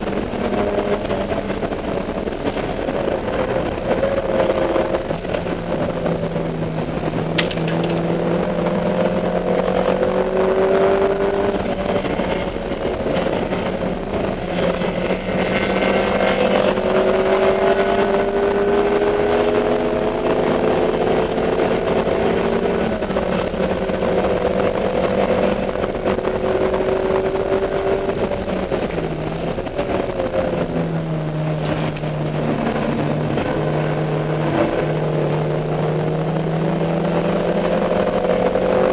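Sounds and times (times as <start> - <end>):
race car engine accelerating: 0.0 - 38.9.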